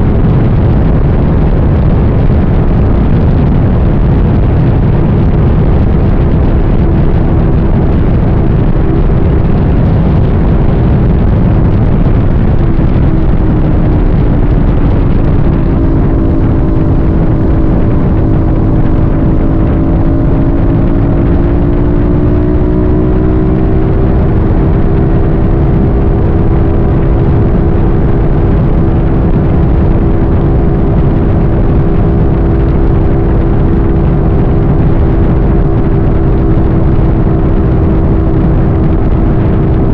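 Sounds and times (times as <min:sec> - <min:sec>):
road and wind noise: 0:00.0 - 0:39.9
vehicle engine: 0:00.0 - 0:39.9.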